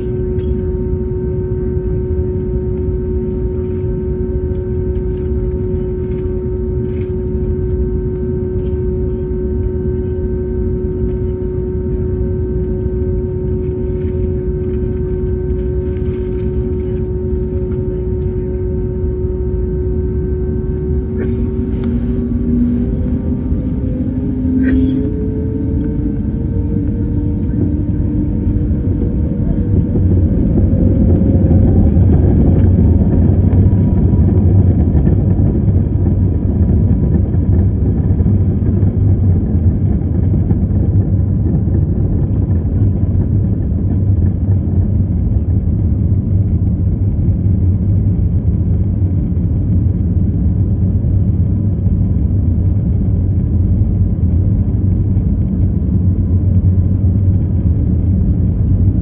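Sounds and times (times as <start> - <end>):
jet engines and cabin rumble: 0.0 - 59.0.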